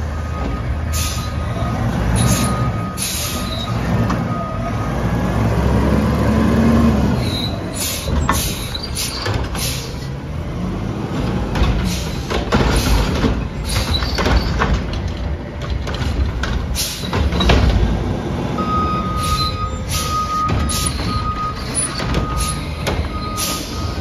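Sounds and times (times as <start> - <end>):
garbage truck diesel engine: 0.0 - 24.0.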